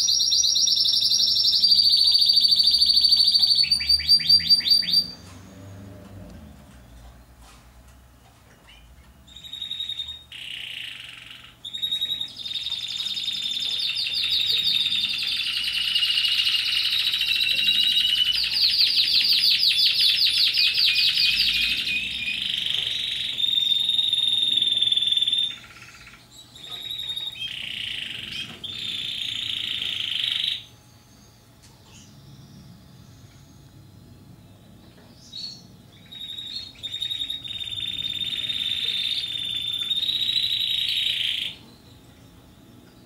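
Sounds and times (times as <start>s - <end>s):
canary singing trills: 0.0s - 5.8s, 8.5s - 43.0s.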